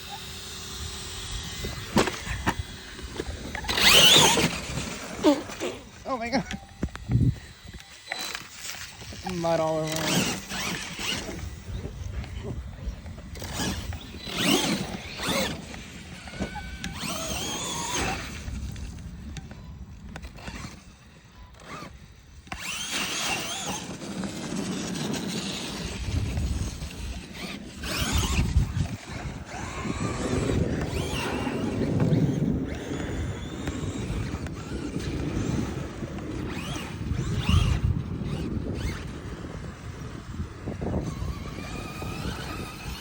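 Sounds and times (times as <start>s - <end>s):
radio-controlled truck motors whining: 0.0s - 43.0s.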